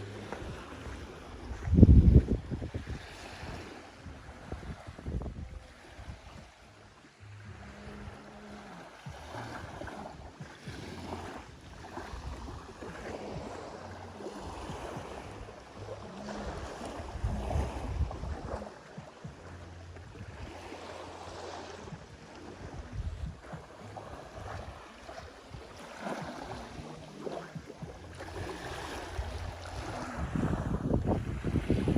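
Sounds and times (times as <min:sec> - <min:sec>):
wind rumbling on microphone: 0:00.0 - 0:31.9.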